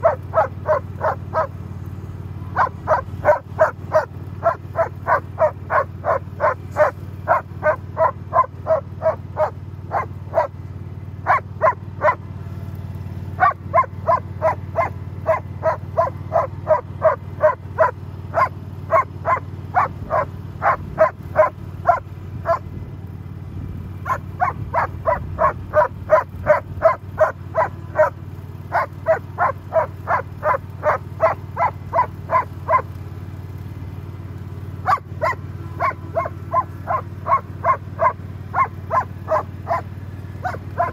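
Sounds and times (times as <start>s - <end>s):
dog barking rapidly: 0.0s - 12.2s, 13.3s - 23.0s, 24.0s - 33.0s, 34.8s - 40.9s
lawn mower engine running: 0.0s - 40.9s.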